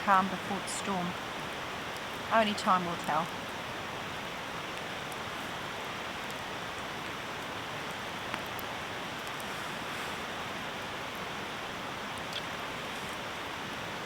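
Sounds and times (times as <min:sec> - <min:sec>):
campfire crackling: 0:00.0 - 0:14.0
steady rushing hiss: 0:00.0 - 0:14.0.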